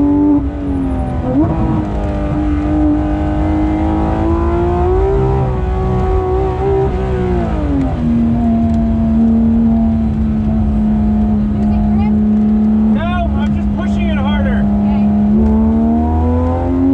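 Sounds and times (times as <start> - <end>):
sports car engine running hard: 0.0 - 16.9.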